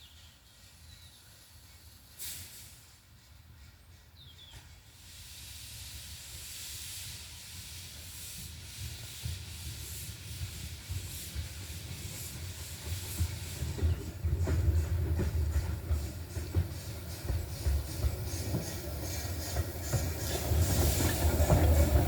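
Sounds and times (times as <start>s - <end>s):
steam locomotive hissing steam: 0.0s - 22.0s.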